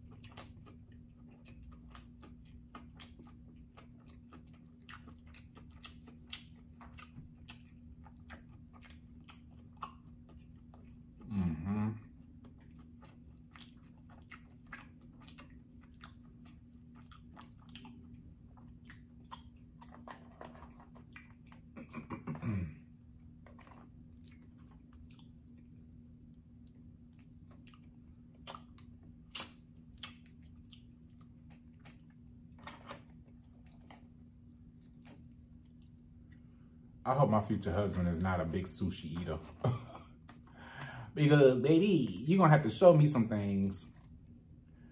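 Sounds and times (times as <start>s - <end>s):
person chewing with wet smacks: 0.0s - 37.0s, 43.4s - 44.9s
faint steady hum: 0.0s - 44.9s.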